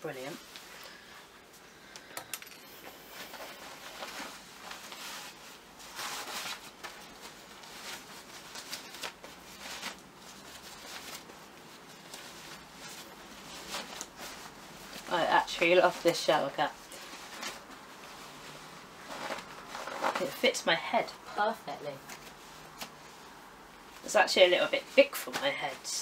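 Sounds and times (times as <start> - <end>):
shower cap rustling against hair: 2.7 - 26.0.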